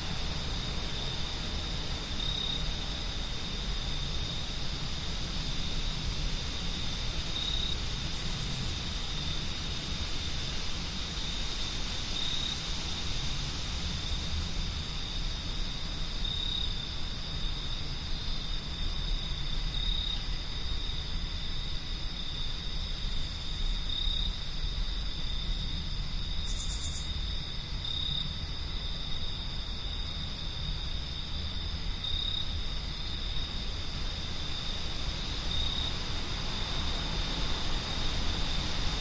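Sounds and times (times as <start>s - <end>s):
crickets trilling: 0.0s - 39.0s
low wind rumble: 0.0s - 39.0s.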